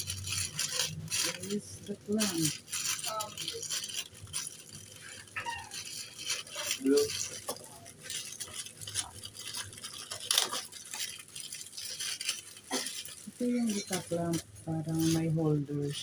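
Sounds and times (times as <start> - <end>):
rustling packaging: 0.0 - 16.0.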